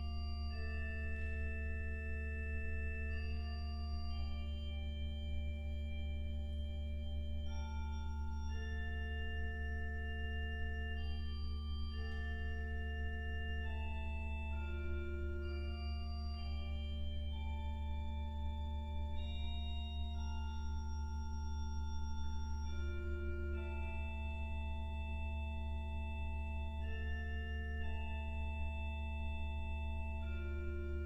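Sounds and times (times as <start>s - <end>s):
pipe organ chords: 4.1s - 31.0s.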